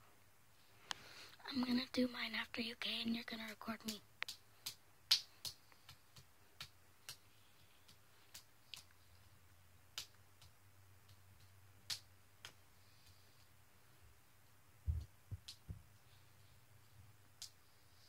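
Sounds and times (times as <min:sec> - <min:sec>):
faint clicks and taps: 0:02.8 - 0:17.8.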